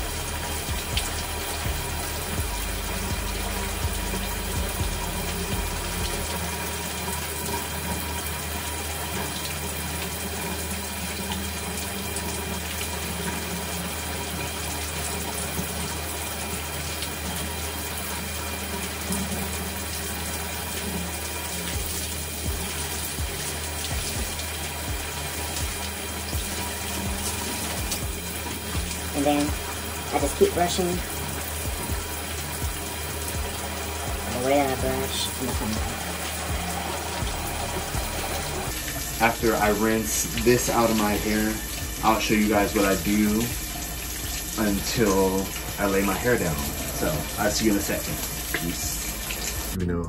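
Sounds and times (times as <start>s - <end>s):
shower water spraying: 0.0s - 49.9s.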